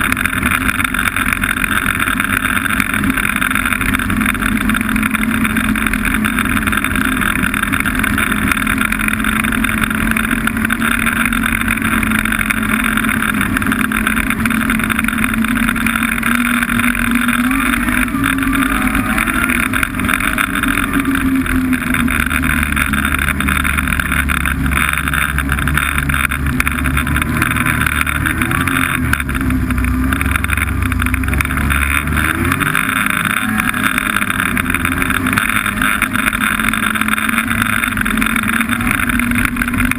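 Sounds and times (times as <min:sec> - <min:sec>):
deeper rumble: 0:00.0 - 0:39.9
snowmobile engine running: 0:00.0 - 0:39.9.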